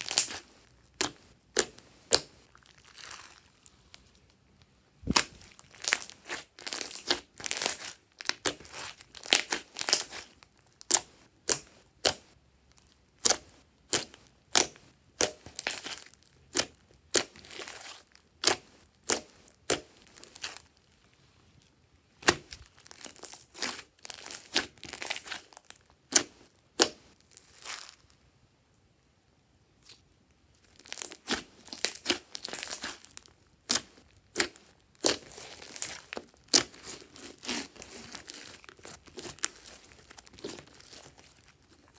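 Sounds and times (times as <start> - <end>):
slime squeezed popping and crackling: 0.0 - 3.5, 5.0 - 12.2, 13.2 - 20.7, 22.2 - 27.9, 30.6 - 41.9.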